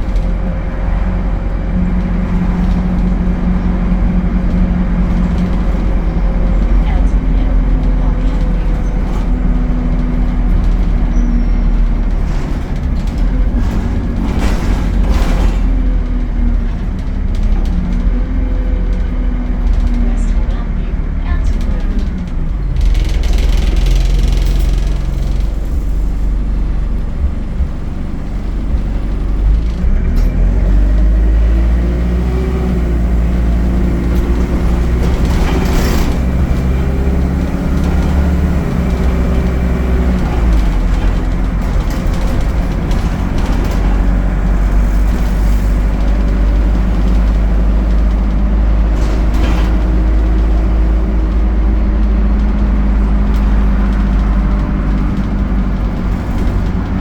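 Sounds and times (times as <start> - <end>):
bus engine accelerating: 0.0 - 57.0.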